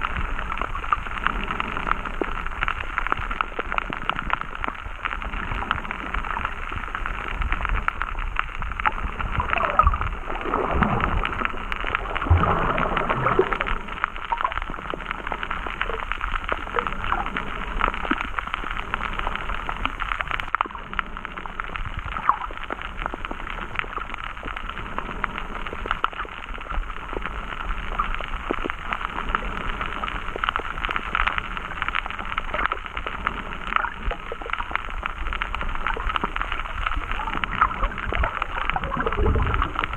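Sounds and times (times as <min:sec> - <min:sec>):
fine crackling clicks: 0:00.0 - 0:39.9
muffled underwater water hiss: 0:00.0 - 0:39.9
water gurgling: 0:00.0 - 0:39.9.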